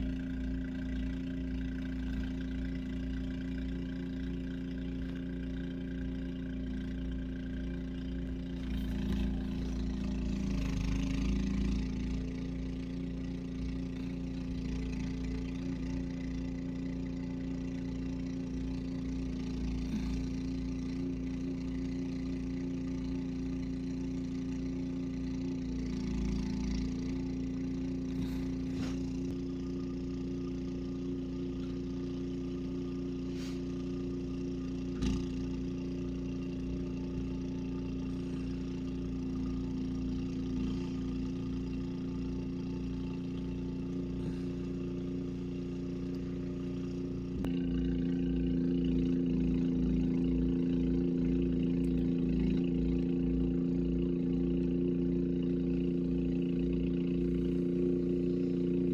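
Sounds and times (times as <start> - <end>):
machine humming: 0.0 - 58.9.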